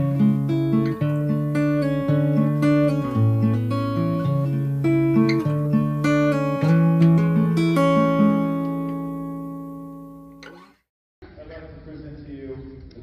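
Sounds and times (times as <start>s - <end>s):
acoustic guitar picking: 0.0s - 10.9s.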